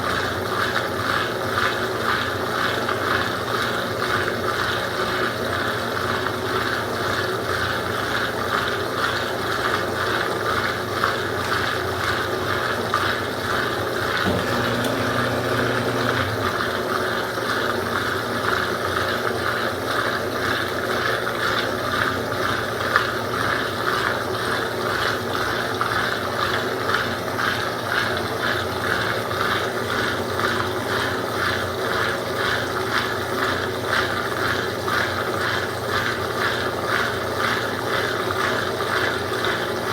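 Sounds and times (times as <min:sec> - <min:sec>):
washing machine clatter: 0:00.0 - 0:39.9.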